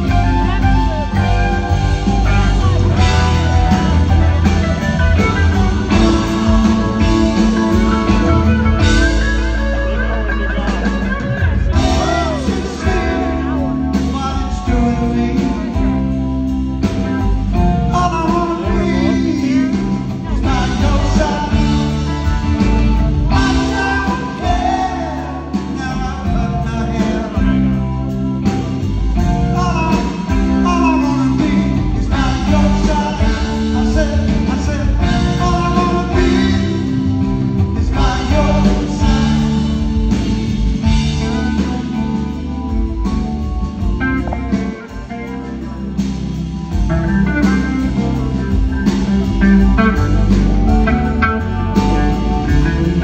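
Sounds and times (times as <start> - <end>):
man singing: 0.0 - 42.4
bass guitar: 0.0 - 53.0
electric guitar: 0.0 - 53.0.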